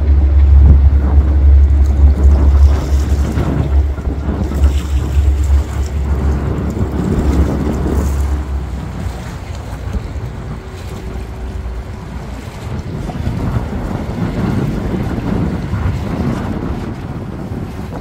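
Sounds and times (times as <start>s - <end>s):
harbour water washing: 0.0s - 18.0s
wind buffeting microphone: 0.0s - 18.0s.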